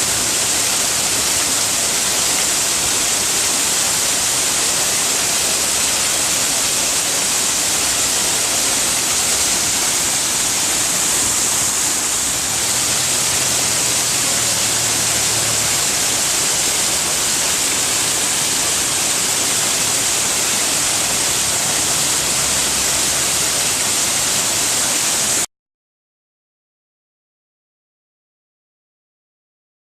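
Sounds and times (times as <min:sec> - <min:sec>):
waterfall rushing: 0:00.0 - 0:25.5.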